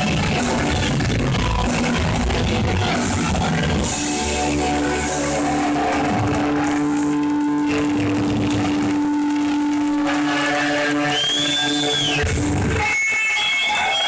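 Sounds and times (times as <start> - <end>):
rock band playing: 0.0 - 13.8.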